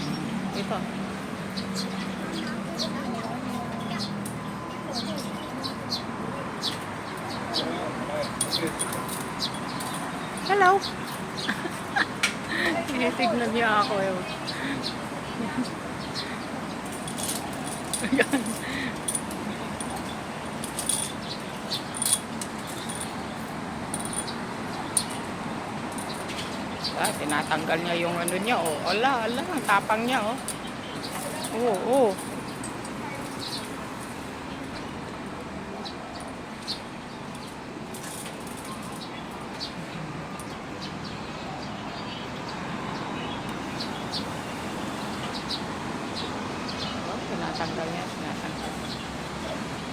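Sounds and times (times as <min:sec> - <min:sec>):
outdoor background noise: 0:00.0 - 0:49.9
small birds chirping: 0:00.0 - 0:49.9
traffic hum: 0:00.0 - 0:49.9.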